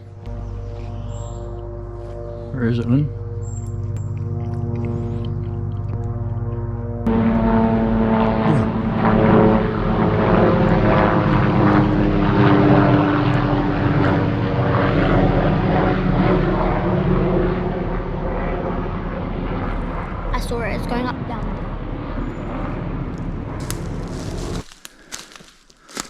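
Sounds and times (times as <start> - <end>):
propeller aircraft engine droning: 0.0 - 24.7.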